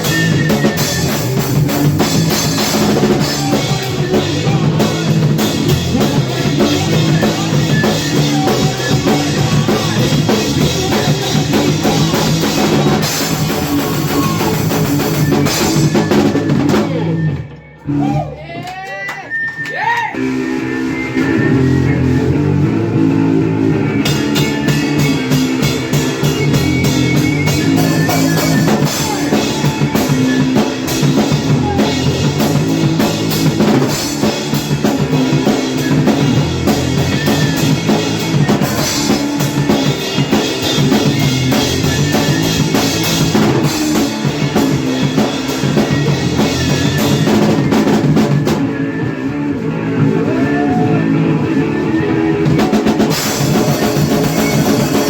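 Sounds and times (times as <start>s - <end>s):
distorted electric guitar and bass: 0.0s - 18.2s, 20.2s - 55.0s
drum kit and cymbals: 0.0s - 18.3s, 20.2s - 55.0s.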